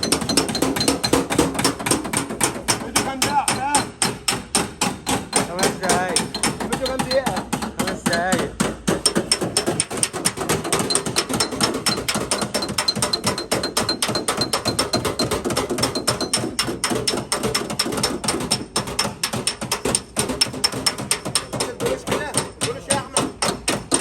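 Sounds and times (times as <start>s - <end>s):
hammer tapping sheet metal: 0.0s - 24.0s.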